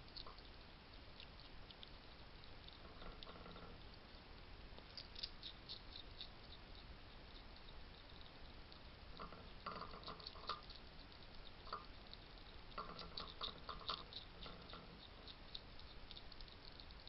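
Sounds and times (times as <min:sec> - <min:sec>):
hedgehogs crunching: 0:00.0 - 0:17.0
hedgehogs snuffling: 0:00.0 - 0:17.0.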